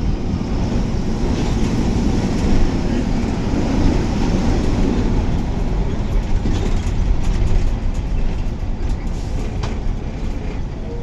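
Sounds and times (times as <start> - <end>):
bus body rattling: 0.0 - 11.0
bus engine and tyres rumbling: 0.0 - 11.0.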